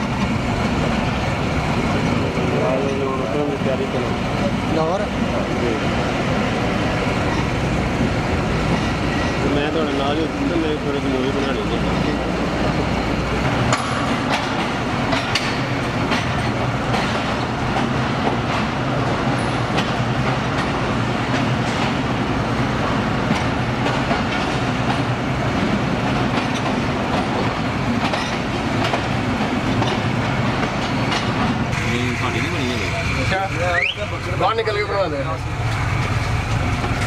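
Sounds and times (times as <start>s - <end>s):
clickety-clack over rail joints: 0.0s - 37.0s
train wheels rumbling: 0.0s - 37.0s.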